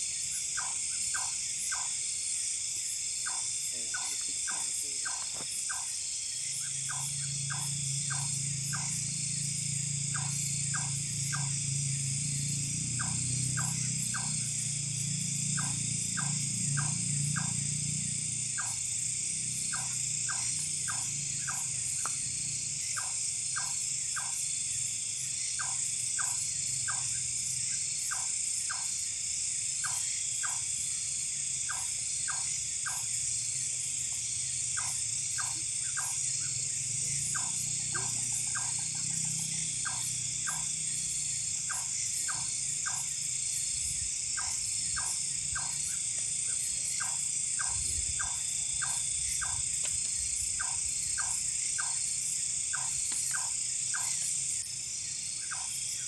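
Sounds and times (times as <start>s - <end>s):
frogs calling in clicks: 0.0s - 56.0s
insects droning: 0.0s - 56.0s.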